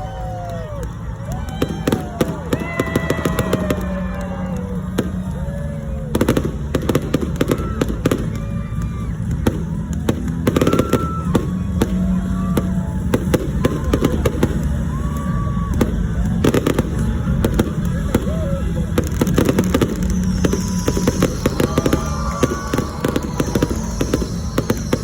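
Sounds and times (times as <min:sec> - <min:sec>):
fireworks bangs and crackles: 0:00.0 - 0:25.0
fireworks rising whistles: 0:00.0 - 0:25.0.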